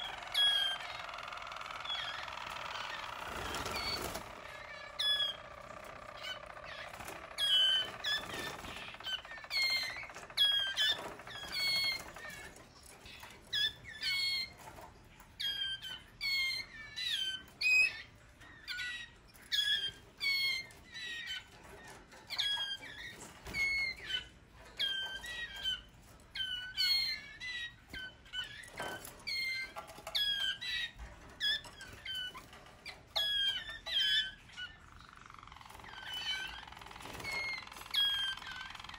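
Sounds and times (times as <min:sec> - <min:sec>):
canaries giving harsh calls: 0:00.0 - 0:38.9.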